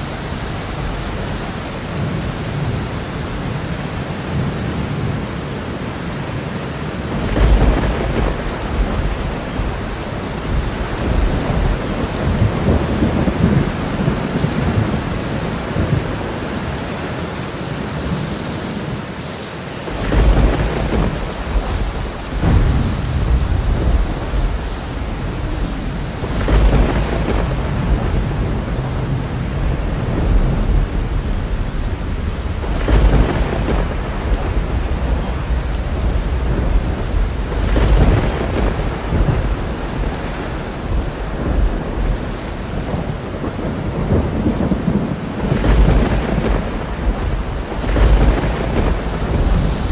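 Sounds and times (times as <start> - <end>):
heavy rain: 0.0 - 49.9
rolling thunder: 6.7 - 19.1, 19.8 - 49.9.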